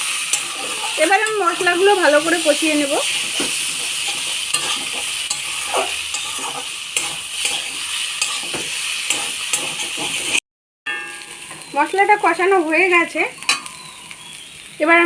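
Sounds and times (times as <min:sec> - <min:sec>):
spatula scraping and tapping pan: 0:00.0 - 0:11.8, 0:13.4 - 0:14.3
food sizzling in a pan: 0:00.0 - 0:15.0.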